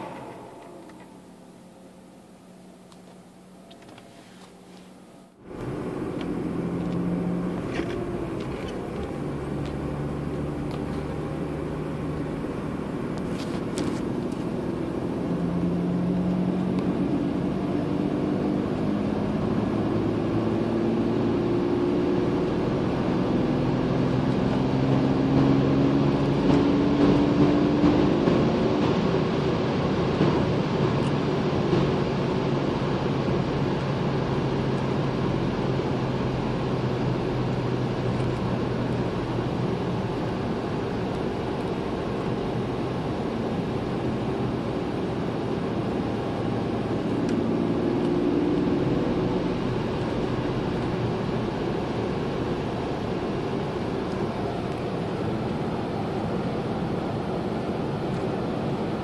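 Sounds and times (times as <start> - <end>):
car engine under load: 0.0 - 59.0
road noise: 0.0 - 59.0.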